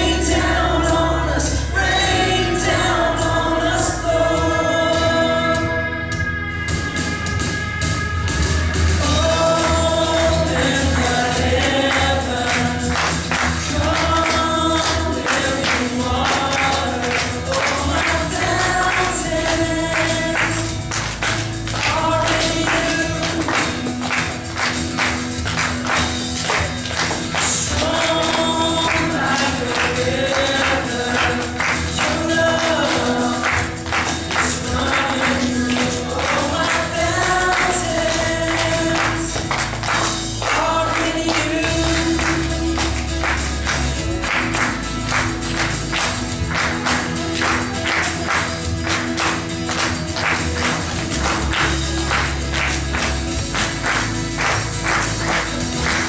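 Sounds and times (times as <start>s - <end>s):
congregation singing: 0.0s - 6.5s, 8.8s - 56.0s
instrumental accompaniment: 0.0s - 56.0s
steady percussion beat: 0.0s - 56.0s.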